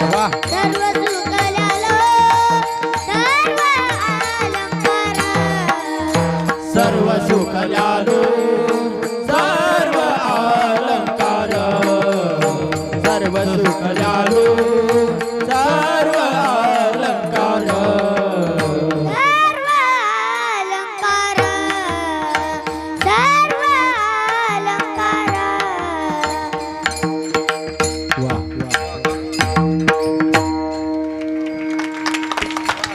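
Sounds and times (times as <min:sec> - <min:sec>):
drum rhythm: 0:00.0 - 0:19.3, 0:21.1 - 0:32.9
high voice singing: 0:00.0 - 0:27.1
harmonium drone: 0:00.0 - 0:32.9.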